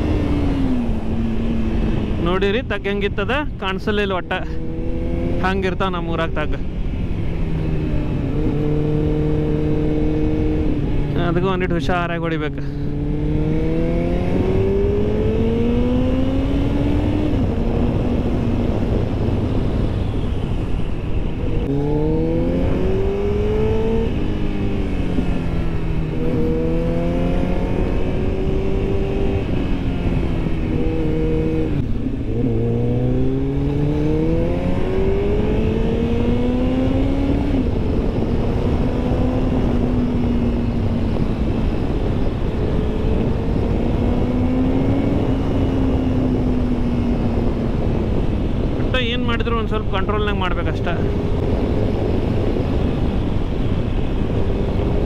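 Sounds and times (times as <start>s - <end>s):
motorcycle engine accelerating: 0.0s - 55.0s
wind and road rumble: 0.0s - 55.0s.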